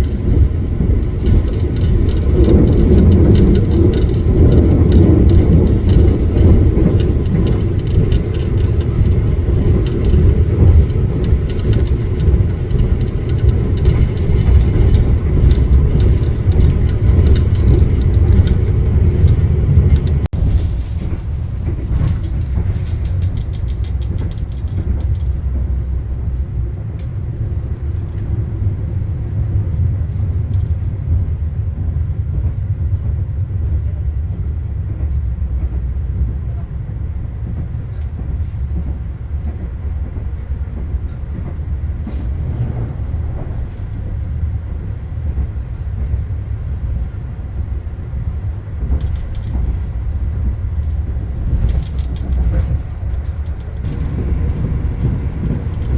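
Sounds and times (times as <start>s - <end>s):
rail clicks and rattles: 0.0s - 55.9s
train wheels rumbling on rails: 0.0s - 55.9s.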